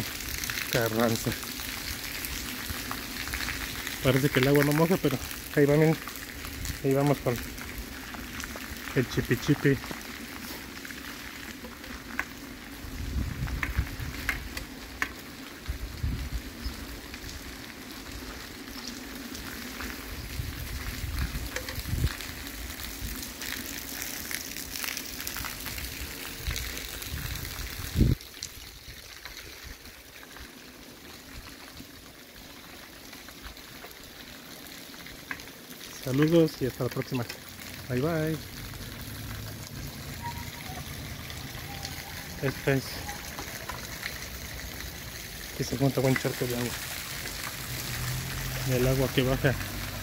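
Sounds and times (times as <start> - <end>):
drizzle on wet street: 0.0 - 50.0.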